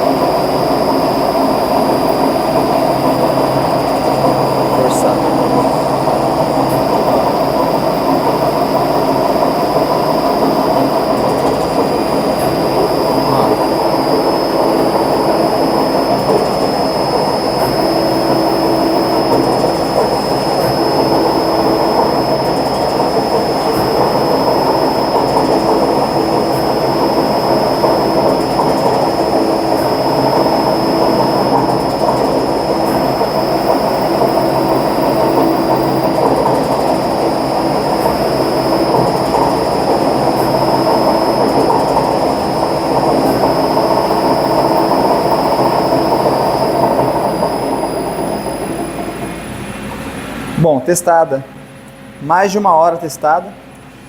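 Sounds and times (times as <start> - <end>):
constant high whine: 0.0 - 54.0
hydraulic pump running: 0.0 - 54.0.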